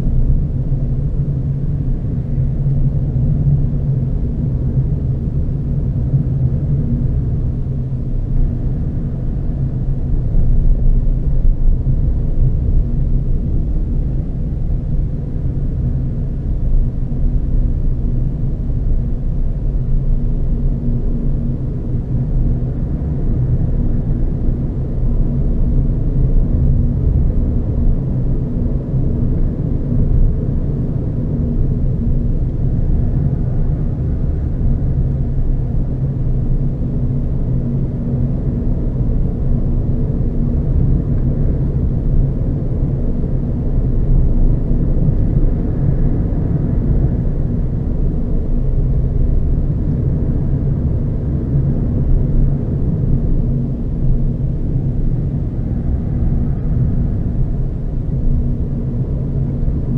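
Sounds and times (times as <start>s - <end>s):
car tyre and wind rumble: 0.0s - 59.9s.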